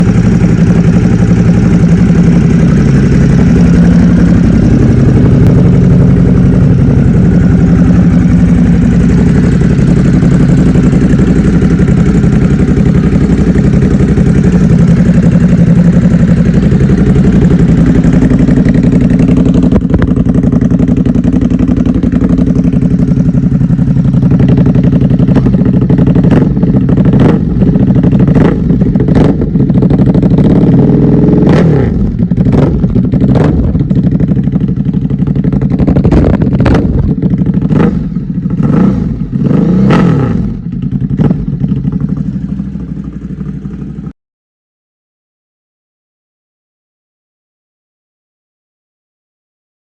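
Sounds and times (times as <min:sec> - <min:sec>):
motorcycle engine running loud: 0:00.0 - 0:44.1.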